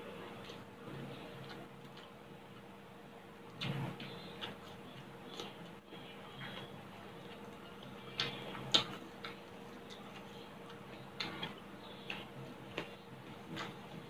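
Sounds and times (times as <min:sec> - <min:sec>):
faint steady hum: 0:00.0 - 0:14.0
chewing food with wet clicks: 0:00.3 - 0:02.7, 0:03.5 - 0:14.0.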